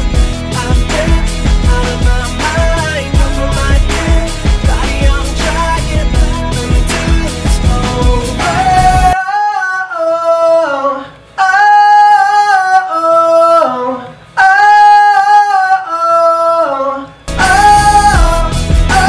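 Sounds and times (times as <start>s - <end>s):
r and b backing music: 0.0s - 9.6s, 10.8s - 19.0s
wordless vocal harmonies: 0.0s - 19.0s.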